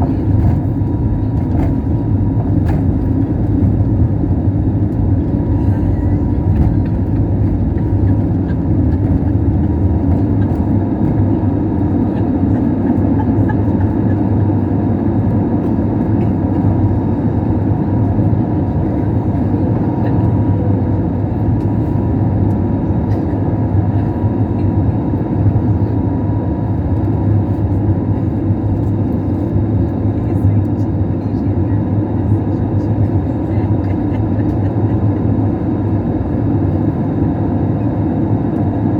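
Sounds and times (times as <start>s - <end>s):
engine and airflow rumble: 0.0s - 38.9s.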